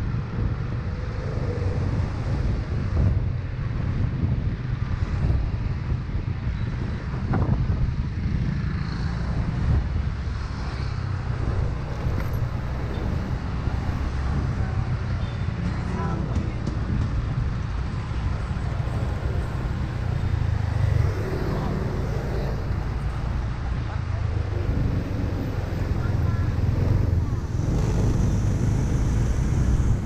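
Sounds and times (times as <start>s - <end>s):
traffic rumble: 0.0s - 30.0s
wind on microphone: 0.0s - 30.0s.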